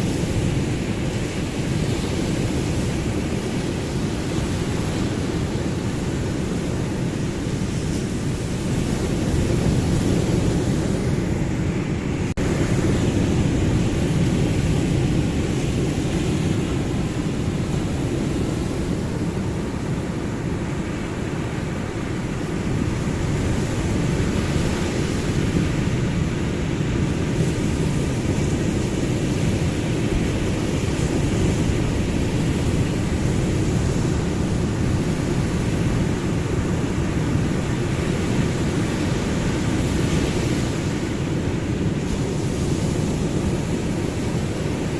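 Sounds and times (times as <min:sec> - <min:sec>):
ocean waves rushing: 0:00.0 - 0:44.9.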